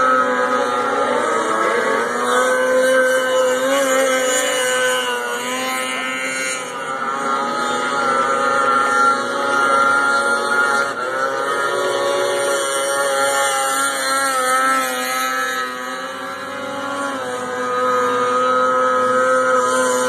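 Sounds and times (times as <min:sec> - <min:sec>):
snowmobile engine whining at high revs: 0:00.0 - 0:20.0.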